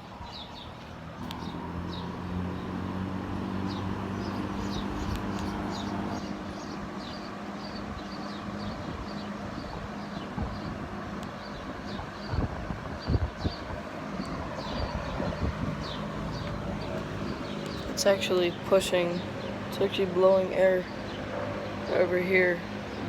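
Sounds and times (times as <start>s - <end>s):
birds chirping: 0.0s - 23.0s
box fan running: 0.9s - 23.0s.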